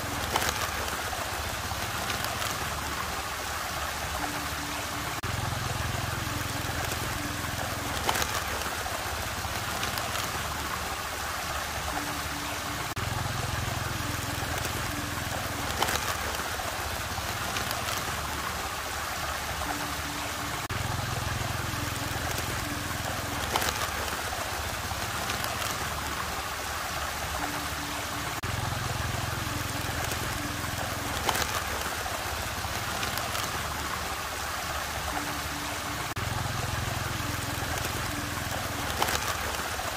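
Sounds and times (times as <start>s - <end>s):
water rushing and gurgling: 0.0s - 39.9s.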